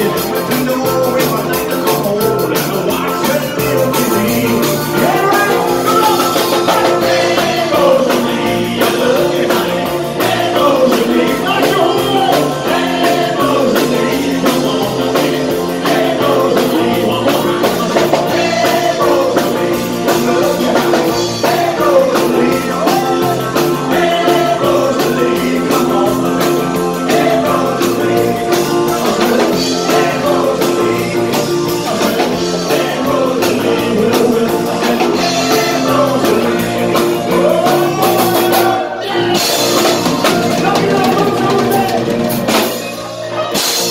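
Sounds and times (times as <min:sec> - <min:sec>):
drum kit beat: 0:00.0 - 0:43.9
electric guitar: 0:00.0 - 0:43.9
person singing: 0:00.0 - 0:43.9.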